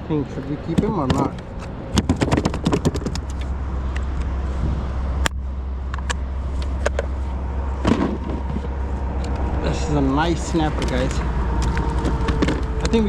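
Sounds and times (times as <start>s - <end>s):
wind rumble on microphone: 0.4s - 13.0s.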